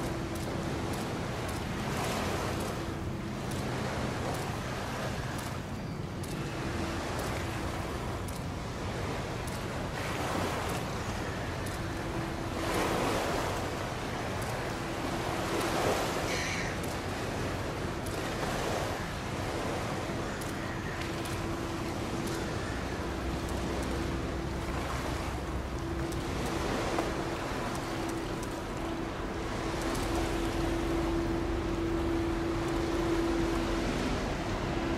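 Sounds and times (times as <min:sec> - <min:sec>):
ship low hum: 0:00.0 - 0:34.9.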